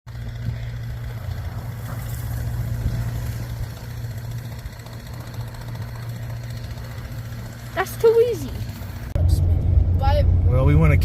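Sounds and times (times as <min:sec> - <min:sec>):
diesel engine low drone: 0:00.1 - 0:11.0.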